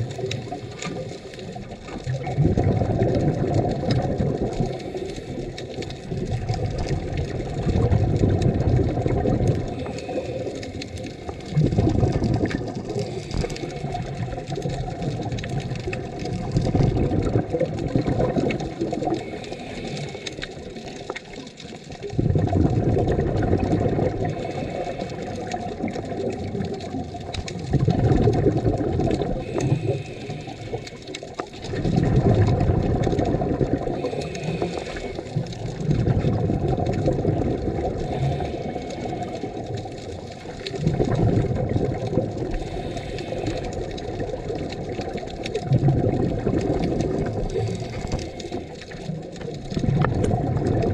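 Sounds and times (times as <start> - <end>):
underwater breath bubbling: 0.0 - 50.9.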